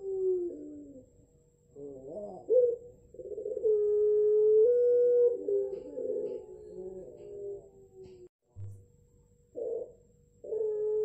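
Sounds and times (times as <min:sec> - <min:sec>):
dove cooing: 0:00.0 - 0:08.3, 0:09.5 - 0:11.0.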